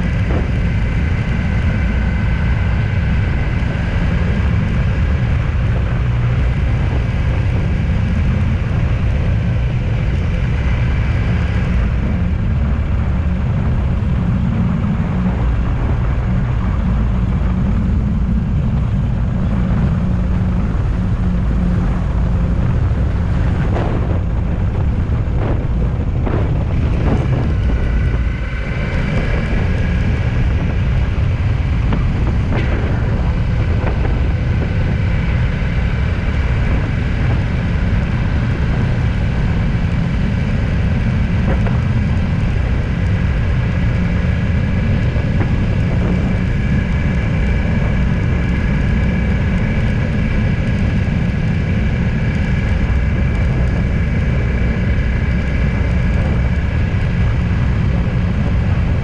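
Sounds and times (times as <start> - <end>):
vehicle road and engine rumble: 0.0 - 59.0.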